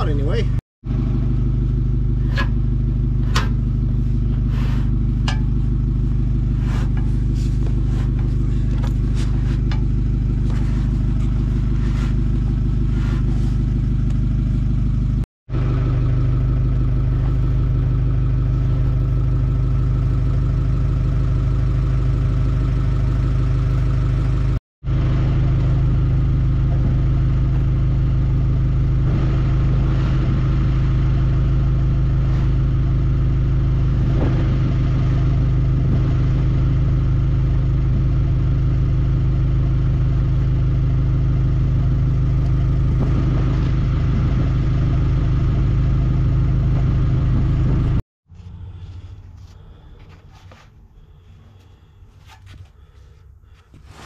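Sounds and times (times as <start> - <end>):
forklift engine idling: 0.0 - 52.2.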